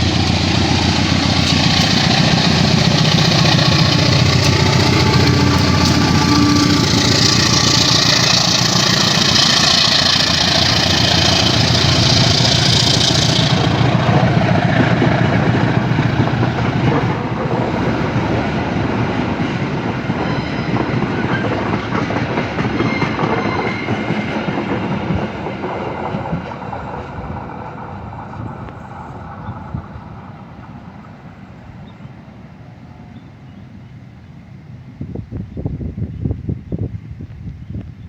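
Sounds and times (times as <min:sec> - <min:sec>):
train wheels clattering on track: 0:00.0 - 0:32.0
train rolling past: 0:00.0 - 0:38.0.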